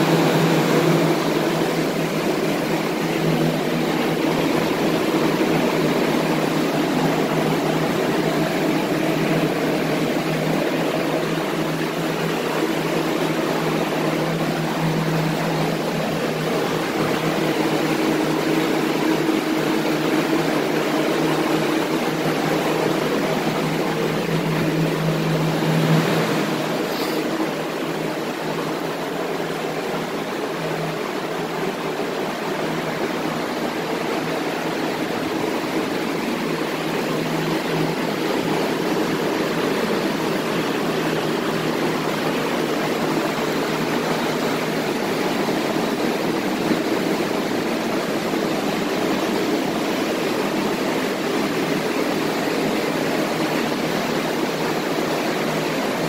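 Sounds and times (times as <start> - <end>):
blower fans rushing air: 0.0 - 56.0.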